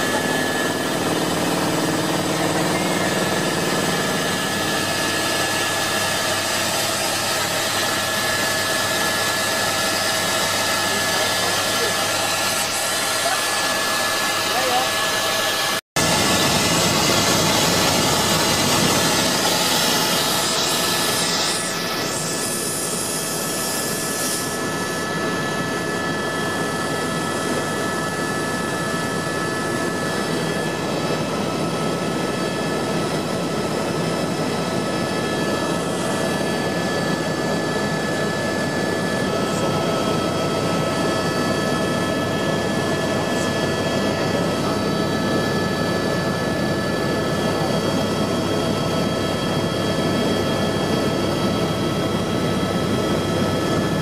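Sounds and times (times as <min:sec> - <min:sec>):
helicopter rotor and engine noise: 0:00.0 - 0:54.0
high turbine whine: 0:00.0 - 0:54.0.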